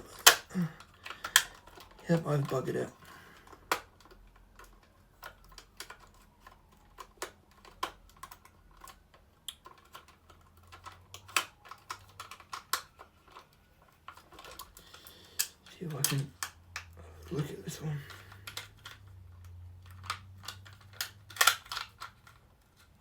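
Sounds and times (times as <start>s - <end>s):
plastic parts clicking: 0.0s - 23.0s.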